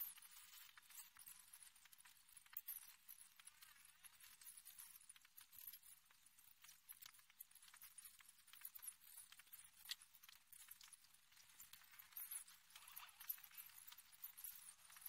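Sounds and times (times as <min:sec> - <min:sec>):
faint high clicks and crackles: 0:00.0 - 0:15.0.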